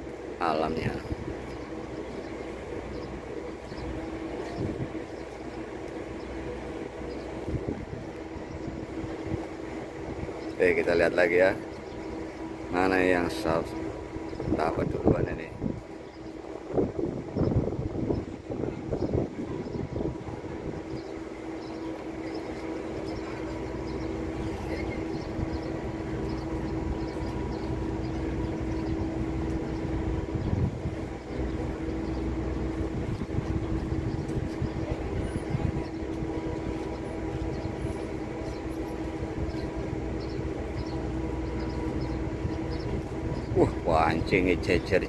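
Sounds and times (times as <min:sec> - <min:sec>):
ship machinery hum: 0:00.0 - 0:45.0.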